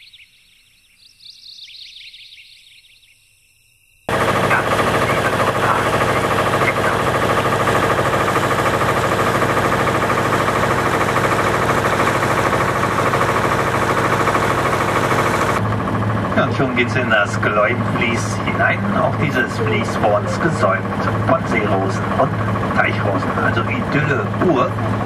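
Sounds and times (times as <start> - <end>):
boat engine running: 4.1 - 25.0.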